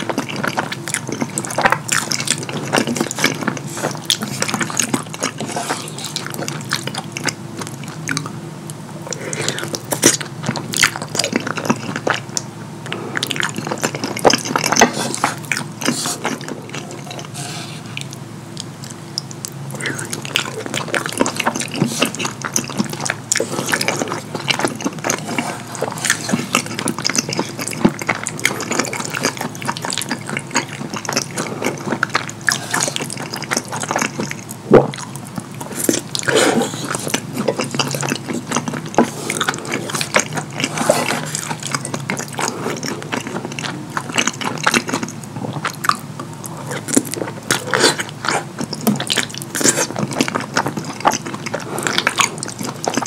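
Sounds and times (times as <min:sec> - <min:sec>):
wet chewing and slurping: 0:00.0 - 0:53.0.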